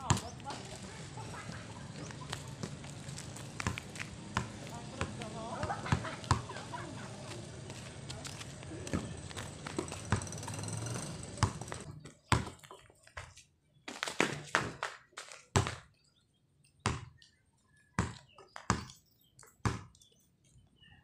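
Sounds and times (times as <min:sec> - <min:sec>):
basketball bouncing on asphalt: 0:00.0 - 0:16.0, 0:16.8 - 0:17.3, 0:17.9 - 0:19.0, 0:19.6 - 0:20.0.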